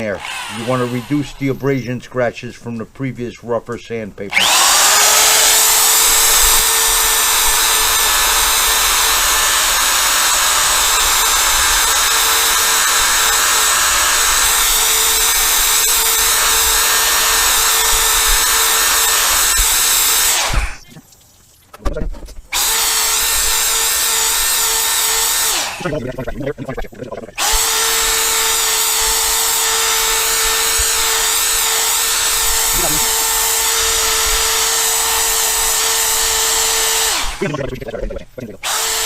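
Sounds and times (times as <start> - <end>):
power drill motor whine: 0.0 - 1.8, 4.3 - 20.9, 22.5 - 25.9, 27.4 - 39.0.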